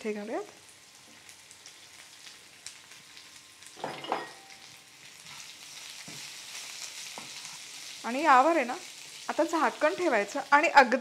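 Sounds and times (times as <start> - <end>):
okra sizzling in hot oil: 0.0 - 11.0.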